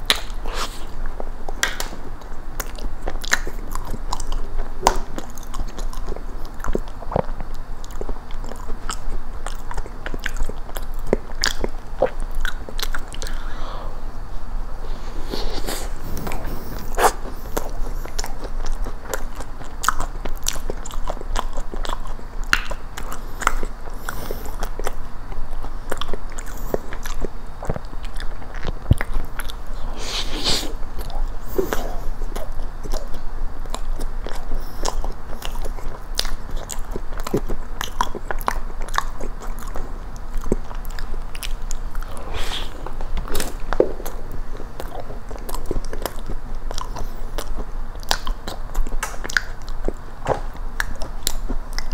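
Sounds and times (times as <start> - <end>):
close-miked biting and chewing: 0.0 - 13.7, 14.8 - 51.9
wet mouth clicks: 0.0 - 13.8, 15.3 - 51.9.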